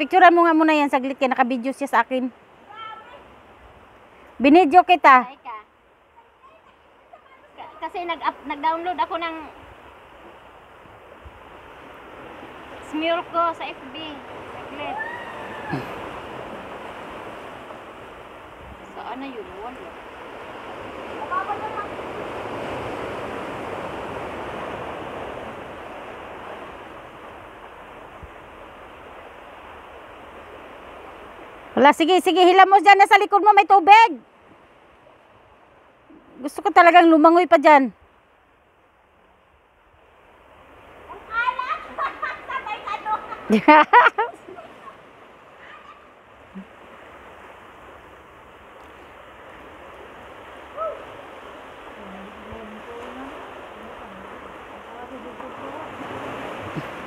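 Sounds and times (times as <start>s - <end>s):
sea waves on rocky shore: 0.0s - 57.0s.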